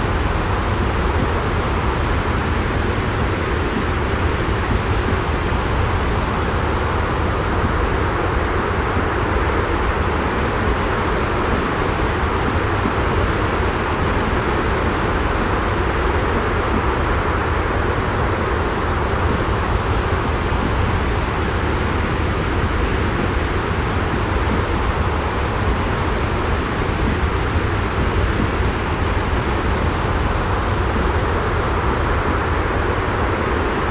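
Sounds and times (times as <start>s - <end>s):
steady white noise: 0.0s - 33.9s.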